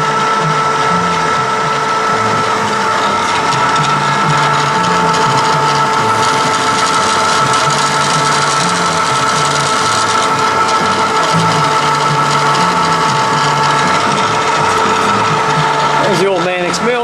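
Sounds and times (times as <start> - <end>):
milling machine cutting metal: 0.0 - 17.0.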